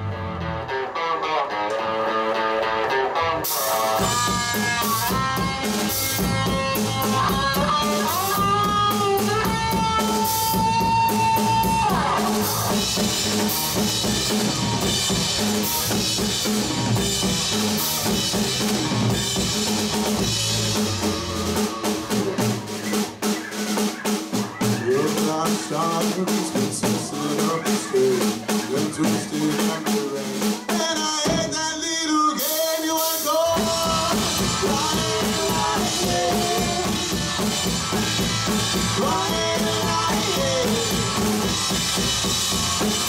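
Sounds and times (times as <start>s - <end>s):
electric guitar lead: 0.0s - 25.2s, 33.4s - 43.0s
bass guitar: 0.0s - 31.6s, 33.2s - 43.0s
drum kit: 0.0s - 43.0s.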